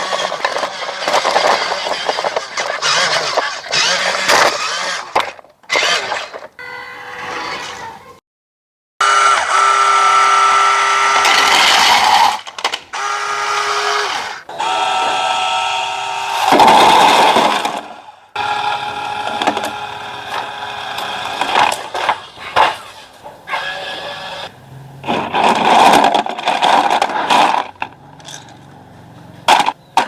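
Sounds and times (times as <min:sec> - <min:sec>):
toy truck motors whining: 0:00.0 - 0:08.0, 0:09.0 - 0:28.6.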